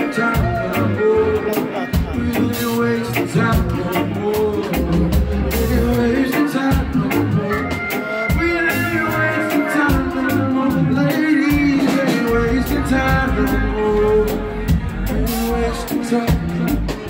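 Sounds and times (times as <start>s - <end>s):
drums: 0.0s - 17.0s
electric guitar: 0.0s - 17.0s
person singing: 0.0s - 17.0s.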